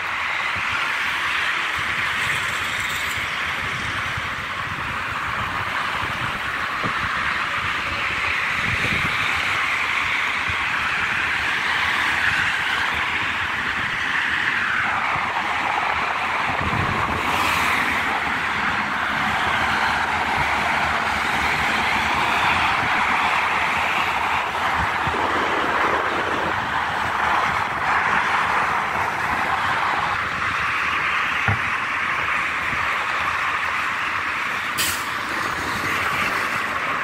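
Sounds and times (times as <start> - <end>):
highway traffic rushing: 0.0 - 37.0.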